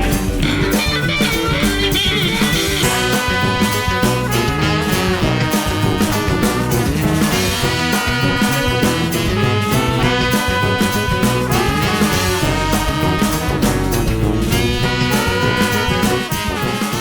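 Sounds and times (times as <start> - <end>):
upbeat swing music with brass: 0.0 - 17.0.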